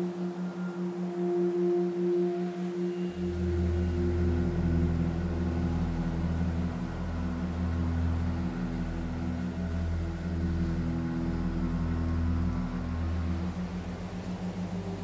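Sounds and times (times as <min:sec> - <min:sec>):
ambient drone music: 0:00.0 - 0:15.0.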